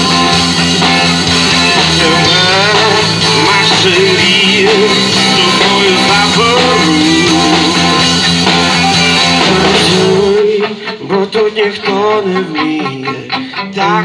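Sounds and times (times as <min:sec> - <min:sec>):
drum kit: 0:00.0 - 0:14.0
electric guitar: 0:00.0 - 0:14.0
person singing: 0:01.0 - 0:14.0.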